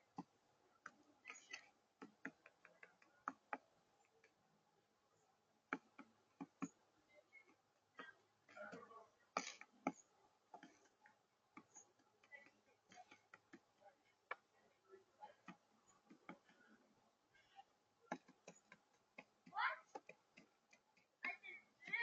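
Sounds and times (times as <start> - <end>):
faint irregular clicks: 0.0 - 22.0.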